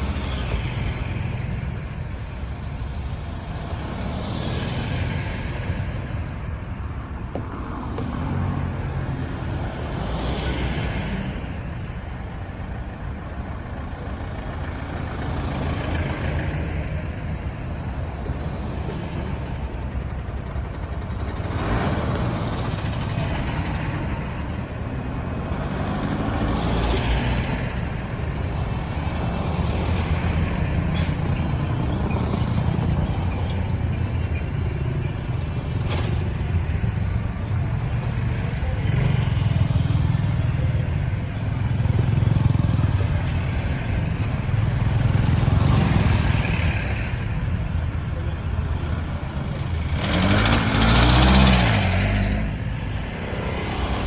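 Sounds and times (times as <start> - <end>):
road traffic rumble: 0.0 - 54.0
vehicles passing close by: 0.0 - 54.0.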